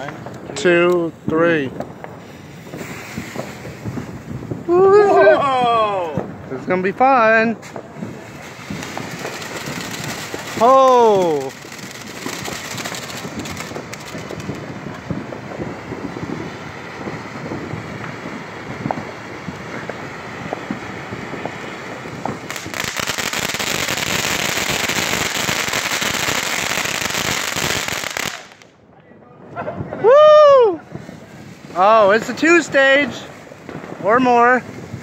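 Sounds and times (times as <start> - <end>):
steady rushing hiss: 0.0 - 28.7, 30.7 - 35.0
fireworks crackling hiss: 0.0 - 35.0.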